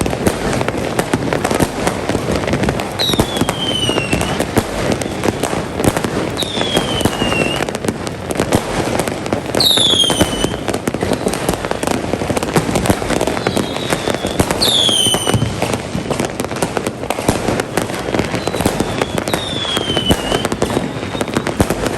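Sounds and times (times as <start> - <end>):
falling whistle of fireworks: 0.0 - 21.9
fireworks bangs and pops: 0.0 - 21.9.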